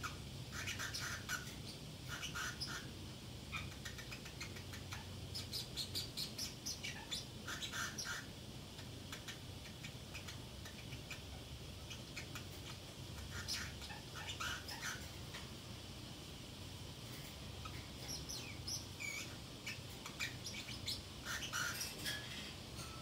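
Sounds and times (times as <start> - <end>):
parrotlet chirps and clicks: 0.0 - 2.9, 3.5 - 15.6, 17.1 - 23.0.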